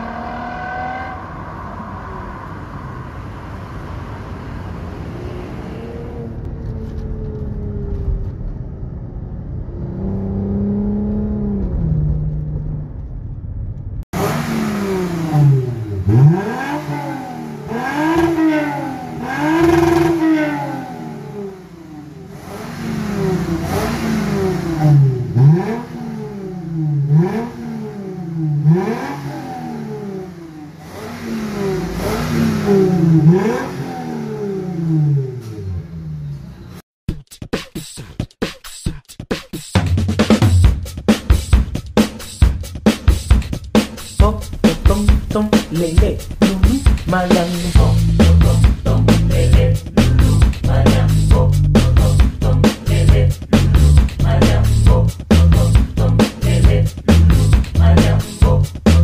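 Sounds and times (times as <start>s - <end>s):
car engine revving: 0.0s - 36.8s, 43.6s - 59.0s
vehicle engine and road noise: 0.0s - 36.8s, 43.4s - 59.0s.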